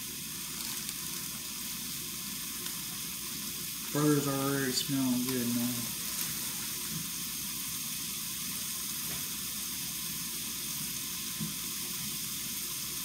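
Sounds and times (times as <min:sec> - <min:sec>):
patties sizzling in a frying pan: 0:00.0 - 0:13.0.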